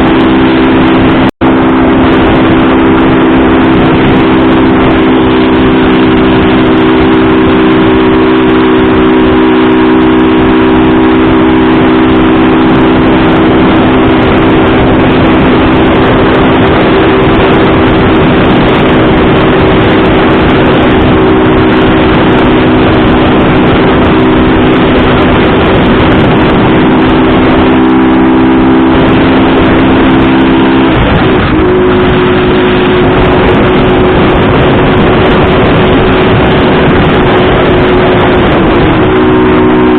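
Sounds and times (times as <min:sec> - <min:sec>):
vehicle driving steadily: 0:00.0 - 0:39.9.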